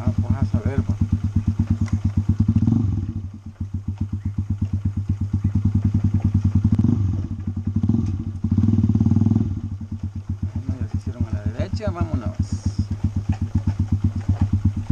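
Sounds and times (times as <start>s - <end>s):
motorcycle engine at low revs: 0.0s - 14.9s.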